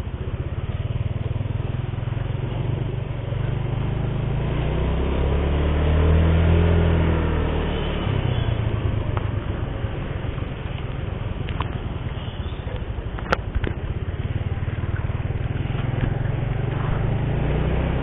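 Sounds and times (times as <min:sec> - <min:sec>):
motor scooter engine accelerating: 0:00.0 - 0:18.0.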